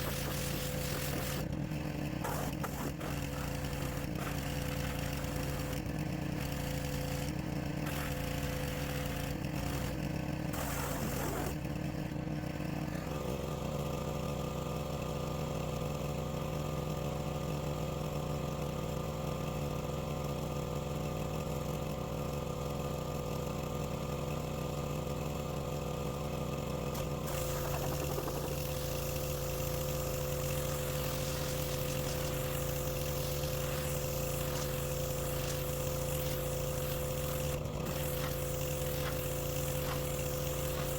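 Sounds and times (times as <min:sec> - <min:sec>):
pressure washer running: 0:00.0 - 0:40.9.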